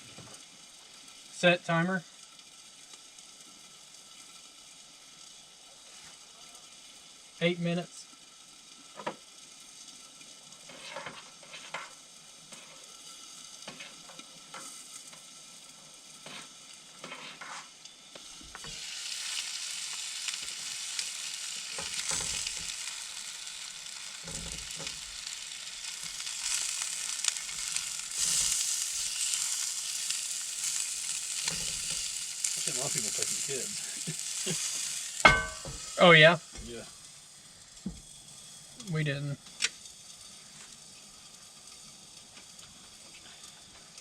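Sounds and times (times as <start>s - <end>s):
sausages sizzling in a frying pan: 0.0s - 44.0s.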